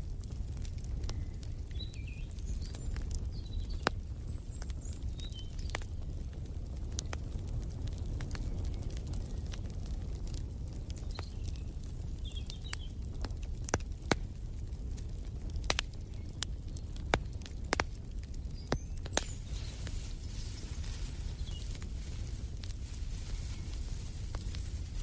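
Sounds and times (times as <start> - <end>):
low fire rumble: 0.0 - 25.0
wood fire popping and snapping: 0.0 - 25.0.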